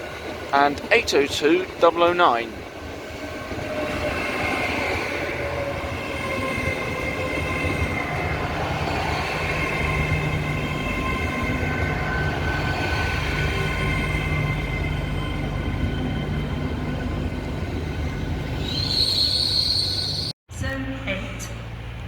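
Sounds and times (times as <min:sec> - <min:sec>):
electric train whine: 0:00.0 - 0:20.3.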